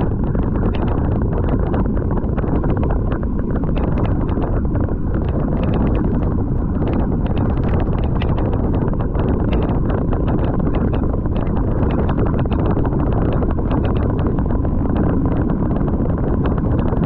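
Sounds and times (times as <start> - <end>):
heavy wind buffeting microphone: 0.0 - 17.0
rapid rattling clicks: 0.0 - 17.0.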